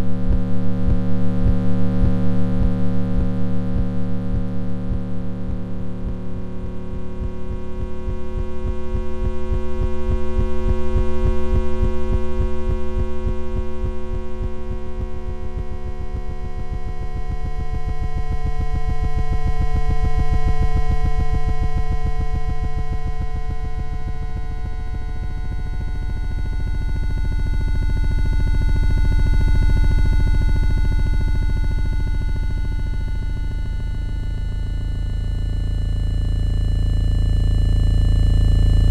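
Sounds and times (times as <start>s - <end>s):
electronic drone: 0.0s - 38.9s.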